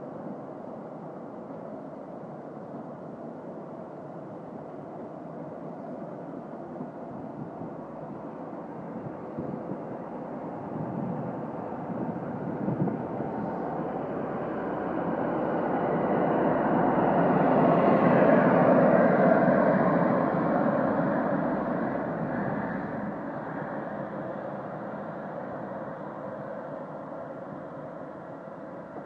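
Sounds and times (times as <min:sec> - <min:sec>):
train passing on rails: 0:00.0 - 0:29.0.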